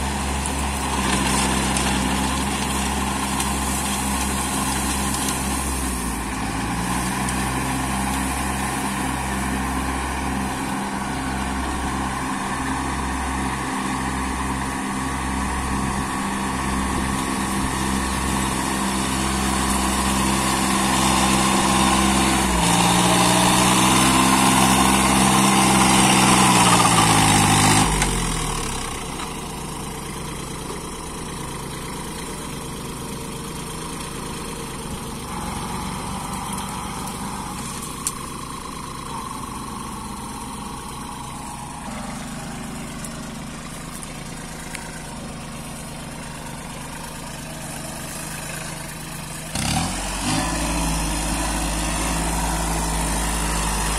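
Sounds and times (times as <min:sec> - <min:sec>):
tractor diesel engine: 0:00.0 - 0:53.9.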